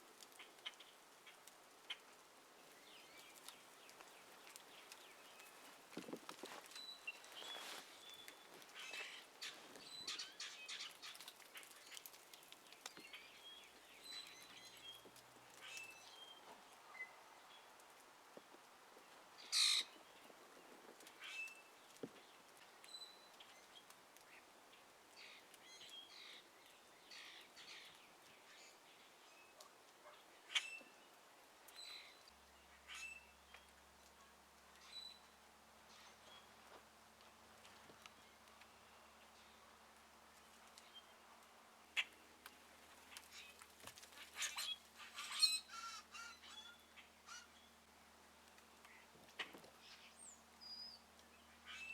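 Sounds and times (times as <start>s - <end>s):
wild birds chirping: 0.2s - 47.9s, 48.6s - 51.9s.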